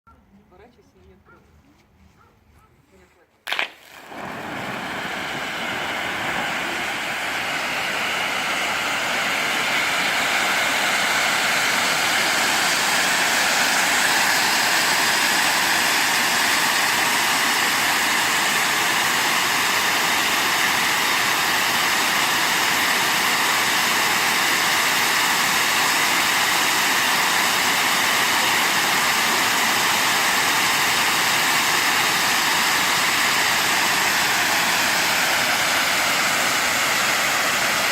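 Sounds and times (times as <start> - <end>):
pyrotechnic fountains hissing: 3.5 - 37.9.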